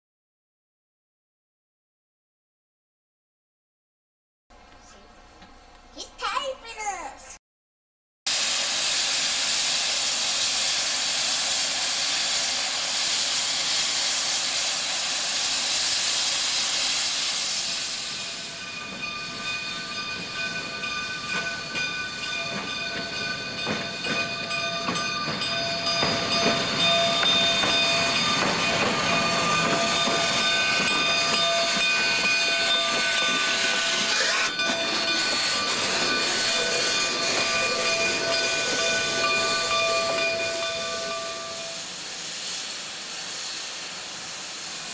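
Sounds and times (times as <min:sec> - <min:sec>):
high steam whistling tones: 0:08.3 - 0:44.9
steam locomotive hissing: 0:08.3 - 0:44.9.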